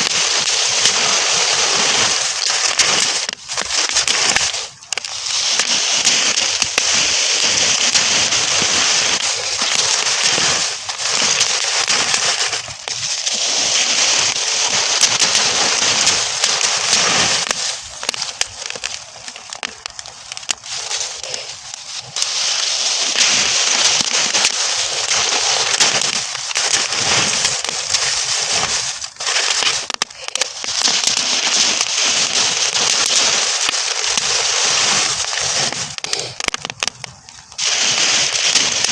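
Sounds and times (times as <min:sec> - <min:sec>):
straw fire crackling: 0:00.0 - 0:38.9.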